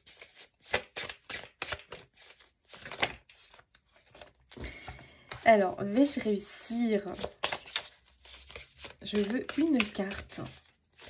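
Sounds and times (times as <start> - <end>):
cards being shuffled: 0.1 - 5.4, 7.1 - 11.0.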